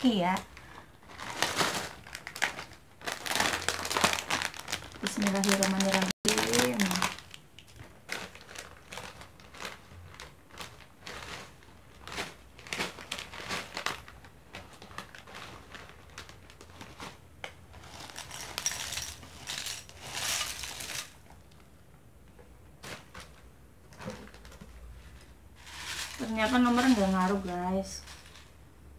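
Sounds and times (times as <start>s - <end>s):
plastic snack packet crinkling: 0.0s - 21.6s, 25.6s - 28.5s.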